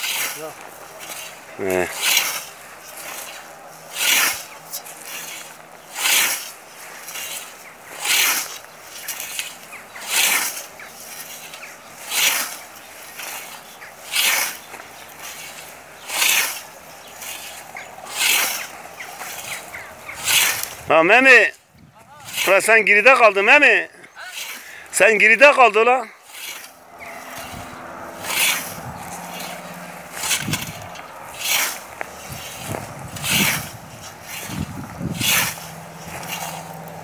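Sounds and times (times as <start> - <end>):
scythe swishing through grass: 0.0 - 20.9, 22.2 - 22.6, 24.2 - 25.3, 26.2 - 37.0.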